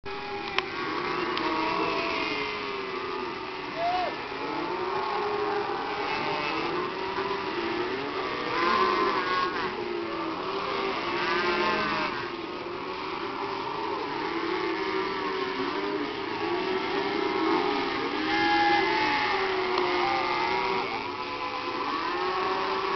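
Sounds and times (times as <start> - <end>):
cattle lowing: 0.1 - 22.9.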